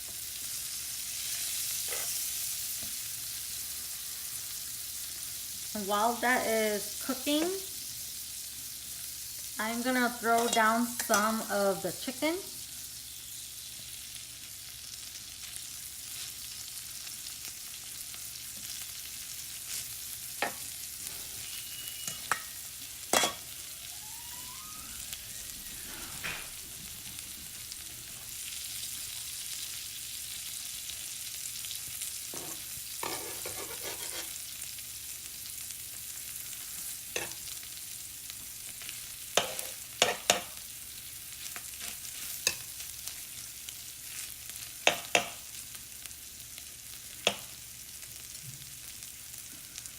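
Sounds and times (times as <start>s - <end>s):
food sizzling in a skillet: 0.0s - 49.9s.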